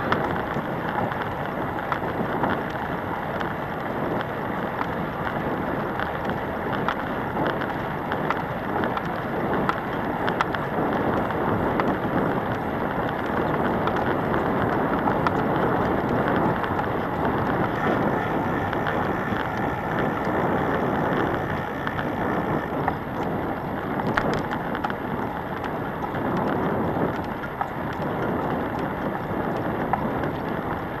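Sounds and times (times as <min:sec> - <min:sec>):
scooter rolling on asphalt: 0:00.0 - 0:31.0
wind on microphone: 0:00.0 - 0:31.0.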